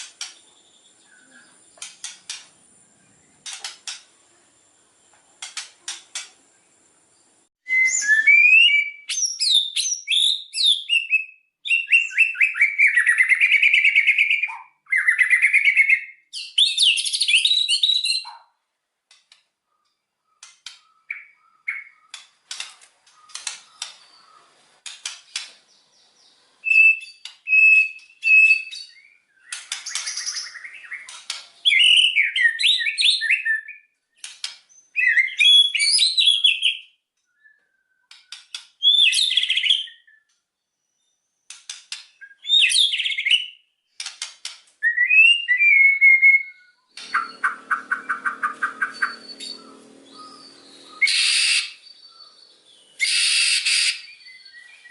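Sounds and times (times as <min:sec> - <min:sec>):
bird singing varied song: 0:00.0 - 0:18.5, 0:19.3 - 0:44.0, 0:44.8 - 0:54.9.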